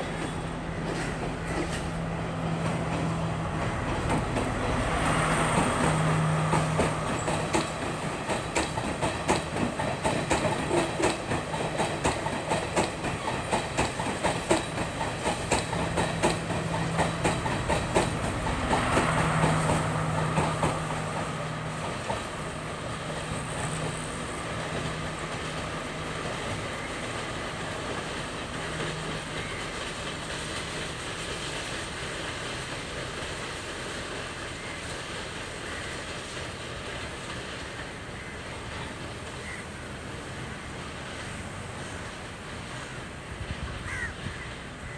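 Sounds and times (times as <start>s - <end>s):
train rumble: 0.0s - 44.9s
train wheels clacking on rails: 0.0s - 44.9s.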